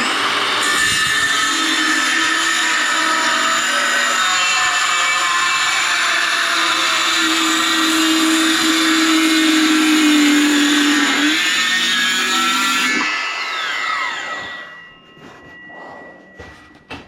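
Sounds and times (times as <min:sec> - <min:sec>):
power cutting tool whining: 0:00.0 - 0:15.6.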